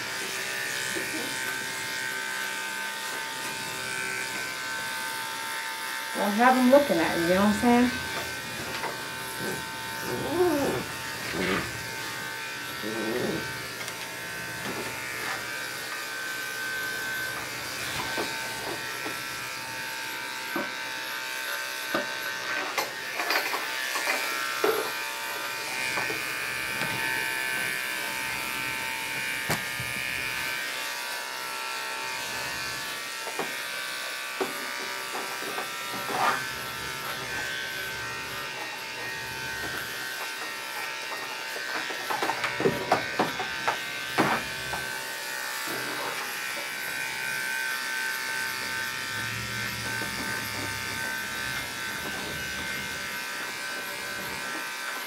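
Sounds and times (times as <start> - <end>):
electric dog clipper humming: 0.0 - 55.0.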